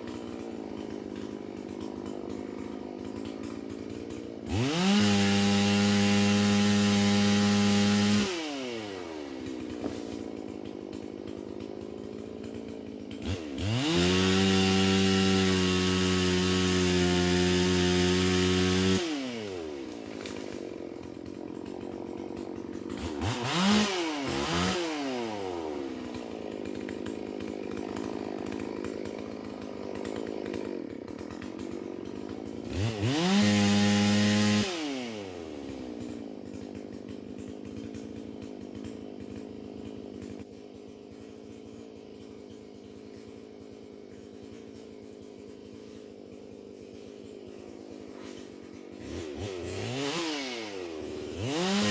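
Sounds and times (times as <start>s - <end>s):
chainsaw revving and idling: 0.0s - 51.9s.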